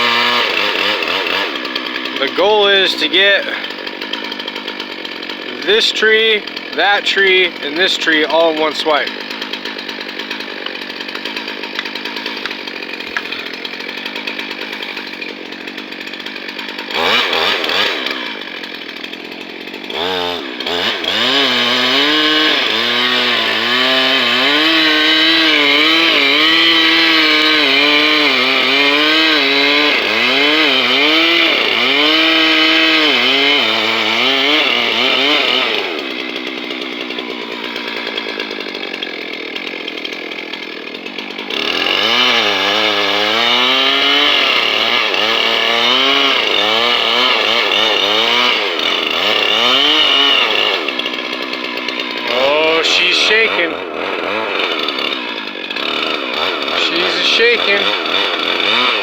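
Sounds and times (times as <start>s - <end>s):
chainsaw cutting wood: 0.0s - 59.0s
chainsaw idling and revving: 0.0s - 59.0s.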